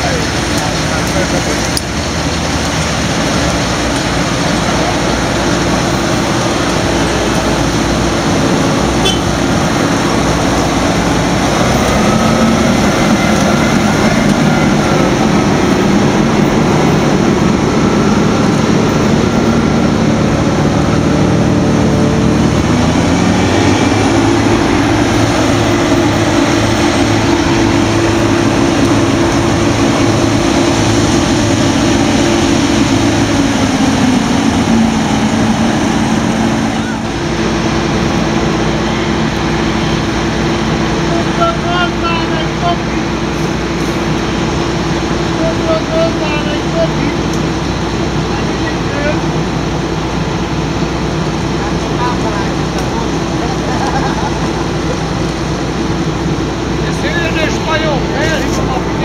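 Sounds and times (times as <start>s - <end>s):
diesel engine running loud: 0.0s - 59.0s.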